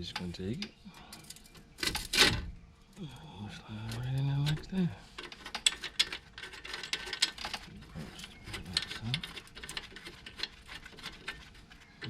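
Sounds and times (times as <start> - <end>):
metal parts clicking and rattling: 0.0 - 2.5, 3.7 - 12.0.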